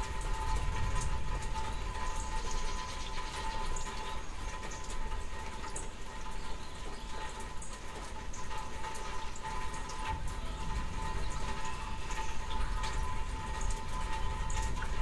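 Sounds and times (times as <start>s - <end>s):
drops ticking: 0.0s - 15.0s
faint steady whine: 0.0s - 15.0s
steady rain: 0.0s - 15.0s.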